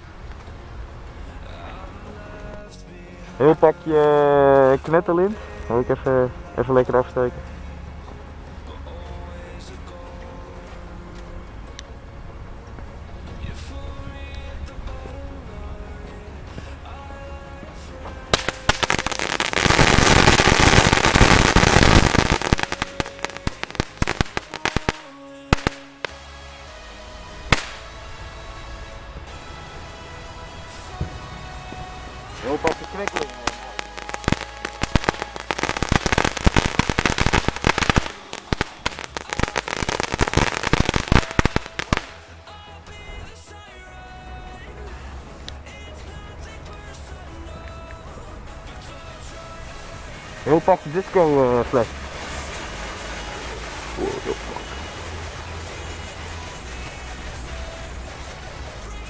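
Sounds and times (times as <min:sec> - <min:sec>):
firecracker string crackling: 0:00.0 - 0:59.0.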